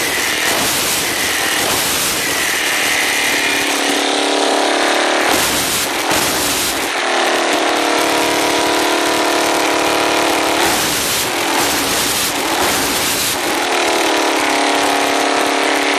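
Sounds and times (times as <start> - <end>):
engine idling and revving: 0.0 - 15.9
engine rattle: 0.0 - 15.9.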